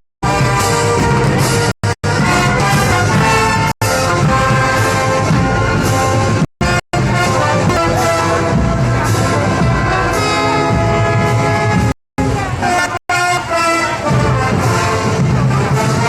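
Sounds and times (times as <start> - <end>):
brass band music: 0.2 - 16.0.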